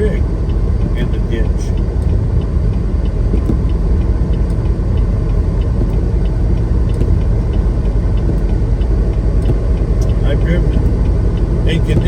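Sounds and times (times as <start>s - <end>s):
faint regular ticking: 0.0s - 12.0s
truck engine and road rumble: 0.0s - 12.0s.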